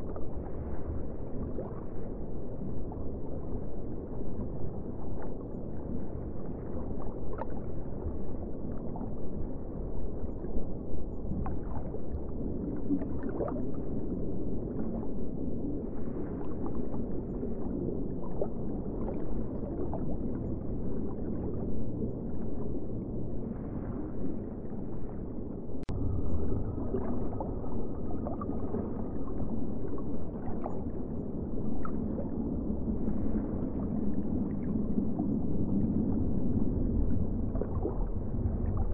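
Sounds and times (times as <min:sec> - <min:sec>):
aquarium water rumble: 0:00.0 - 0:38.9
bubbling and gurgling: 0:00.0 - 0:38.9.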